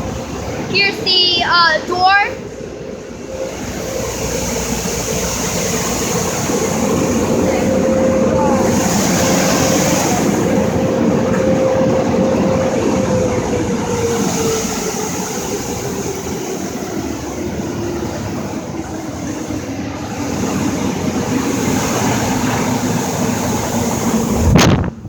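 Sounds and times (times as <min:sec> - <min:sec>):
blow dryers rushing air: 0:00.0 - 0:25.0
fan hum: 0:00.0 - 0:25.0.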